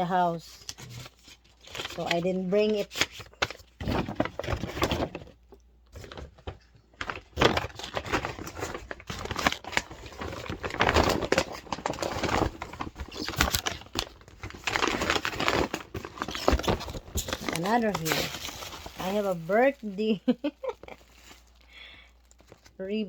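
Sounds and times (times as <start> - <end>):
gift wrapping rustling and tearing: 0.0 - 23.0.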